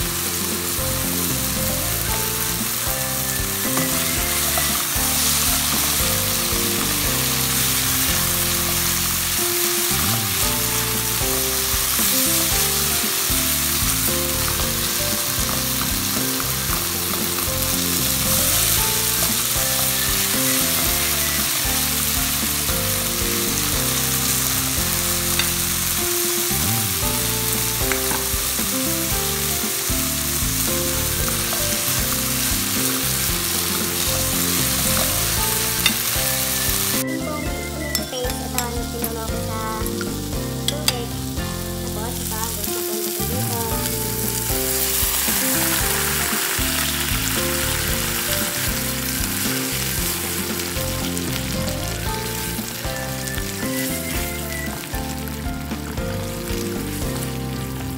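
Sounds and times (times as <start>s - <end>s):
meat sizzling in a frying pan: 0.0s - 57.9s.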